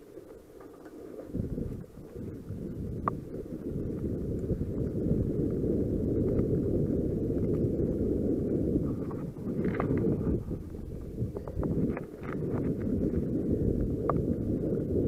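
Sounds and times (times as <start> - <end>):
bike tyres rumbling on dirt: 0.0 - 15.0
wind buffeting microphone: 1.1 - 15.0.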